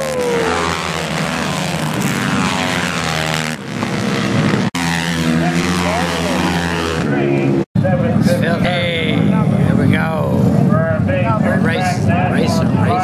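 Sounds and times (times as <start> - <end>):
racing motorcycles engines: 0.0 - 13.0.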